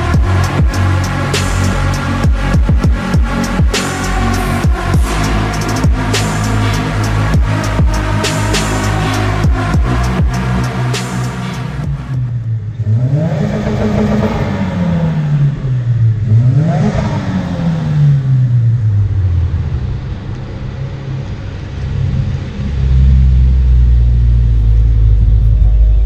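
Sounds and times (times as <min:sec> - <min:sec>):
car engine revving past: 0:00.0 - 0:25.6.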